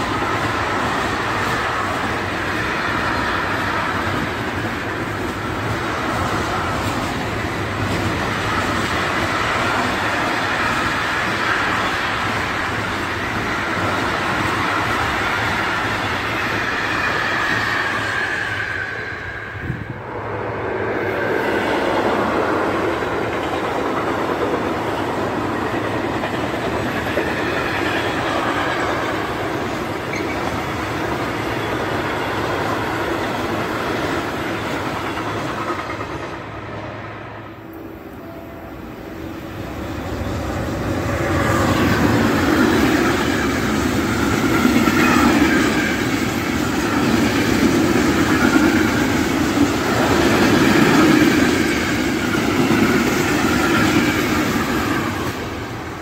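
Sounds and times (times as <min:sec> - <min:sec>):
electric locomotive passing: 0:00.0 - 0:56.0
freight train wheels clattering on rails: 0:00.0 - 0:56.0.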